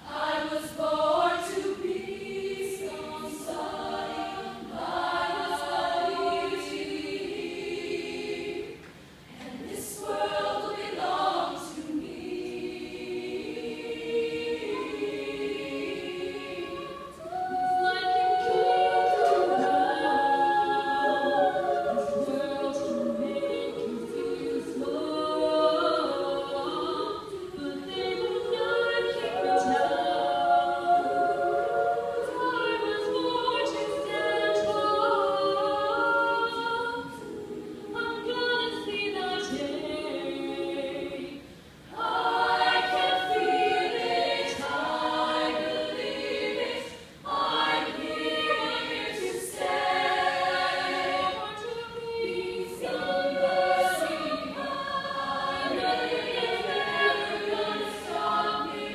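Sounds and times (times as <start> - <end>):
choir of women singing a cappella: 0.0 - 58.9.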